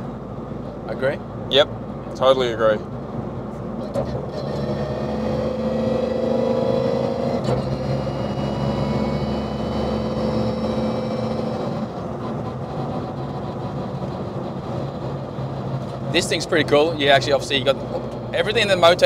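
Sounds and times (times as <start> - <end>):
car engine cruising: 0.0 - 19.0
road and tyre noise: 0.0 - 19.0.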